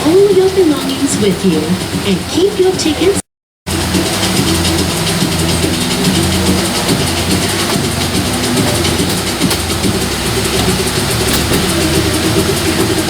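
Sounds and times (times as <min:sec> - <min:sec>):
constant hiss: 0:00.0 - 0:13.0
tram engine humming: 0:00.0 - 0:13.0.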